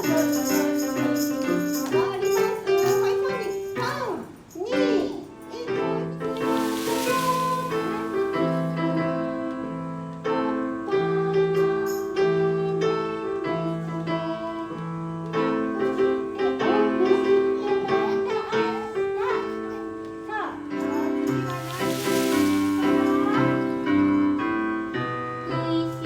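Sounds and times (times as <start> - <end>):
piano playing chords: 0.0 - 26.0.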